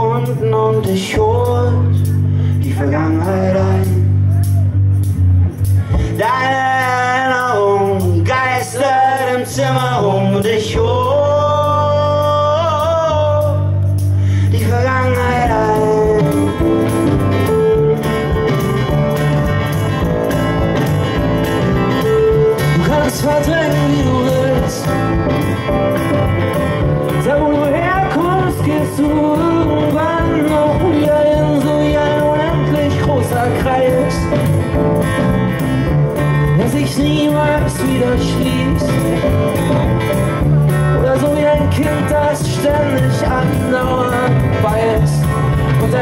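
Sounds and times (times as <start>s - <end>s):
live band playing: 0.0s - 46.0s.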